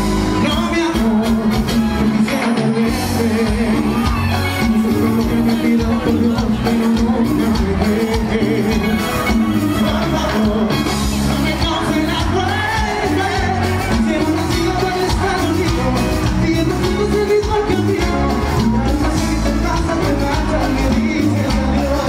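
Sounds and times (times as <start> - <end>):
cumbia band playing: 0.0 - 22.0
man singing: 0.0 - 22.0.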